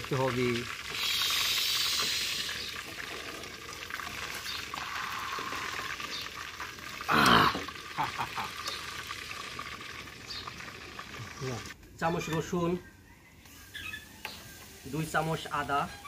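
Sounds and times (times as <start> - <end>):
frying in hot oil: 0.0 - 16.0.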